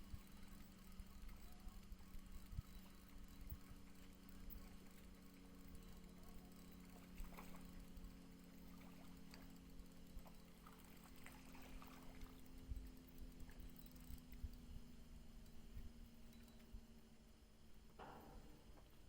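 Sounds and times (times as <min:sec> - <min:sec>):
water trickling: 0:00.0 - 0:16.7
faint steady hum: 0:00.0 - 0:19.0.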